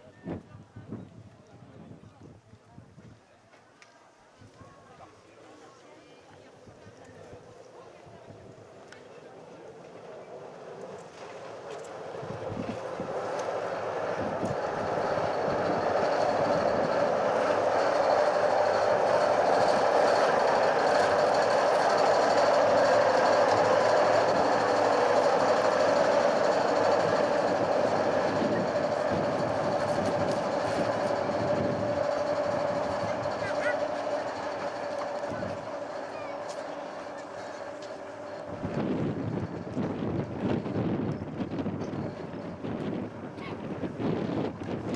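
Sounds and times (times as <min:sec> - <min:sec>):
rack railway train mechanical whine: 0:03.0 - 0:44.9.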